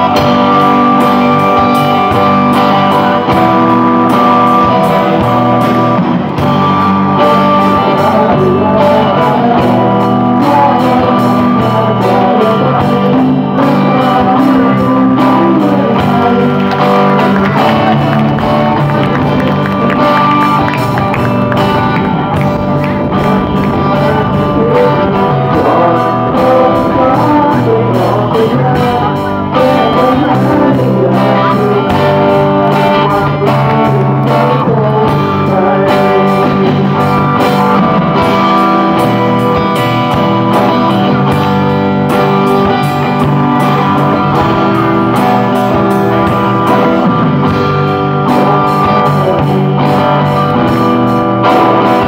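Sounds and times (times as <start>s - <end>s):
rock band playing live: 0.0s - 52.0s.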